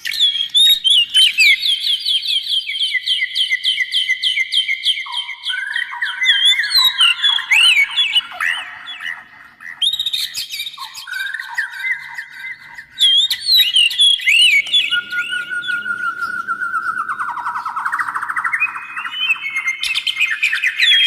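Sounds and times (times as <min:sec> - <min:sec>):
songbird singing whistled notes: 0:00.0 - 0:21.0.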